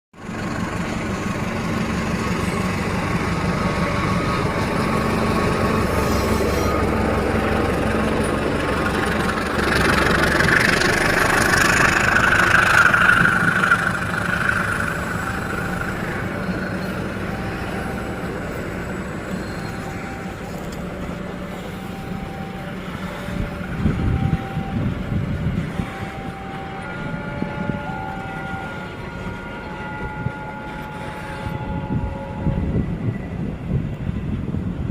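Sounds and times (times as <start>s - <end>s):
carriages rolling by: 0.2s - 34.9s
locomotive engine hum: 0.2s - 34.9s
train passing: 0.2s - 34.9s.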